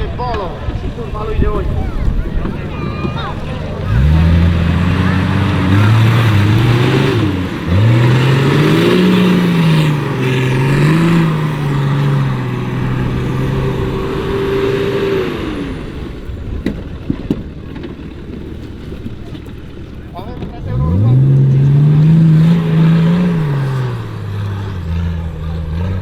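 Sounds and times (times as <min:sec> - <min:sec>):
off-road vehicle engine revving: 0:00.0 - 0:26.0.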